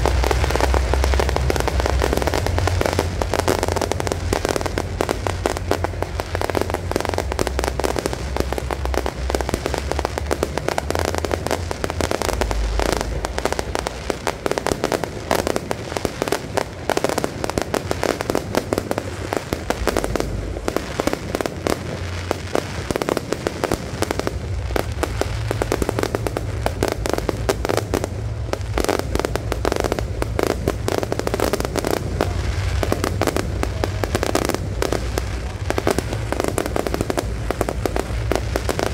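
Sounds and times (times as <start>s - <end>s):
fireworks crackling barrage: 0.0s - 38.9s.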